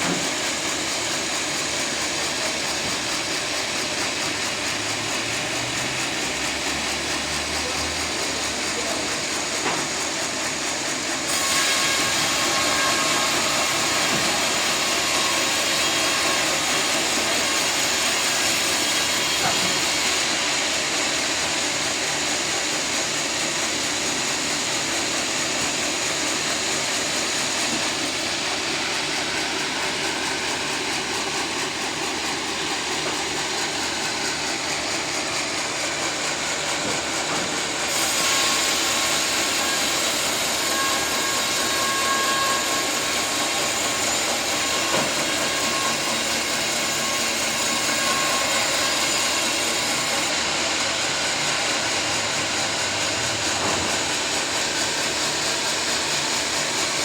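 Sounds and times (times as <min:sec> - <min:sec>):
sawmill sawing log: 0:00.0 - 0:57.0.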